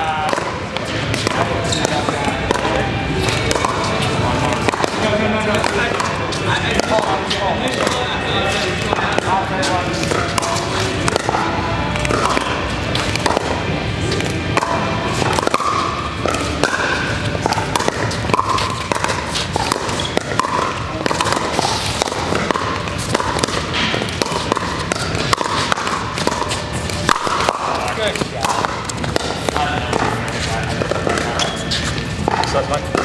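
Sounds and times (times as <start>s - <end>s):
paddles striking plastic ball: 0.0s - 8.0s, 8.6s - 33.0s.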